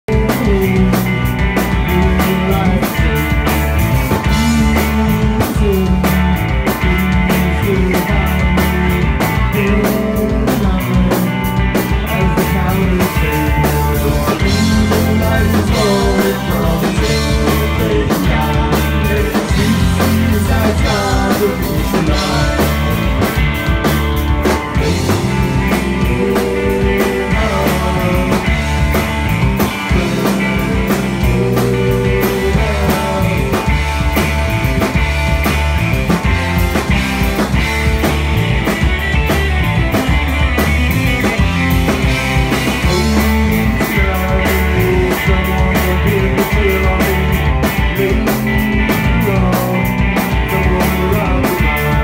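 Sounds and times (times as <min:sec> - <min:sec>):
man singing: 0:00.0 - 0:23.3, 0:24.7 - 0:34.1, 0:42.7 - 0:52.0
distorted electric guitar: 0:00.0 - 0:52.0
electric bass: 0:00.0 - 0:52.0
drum kit with cymbal strikes: 0:00.1 - 0:52.0.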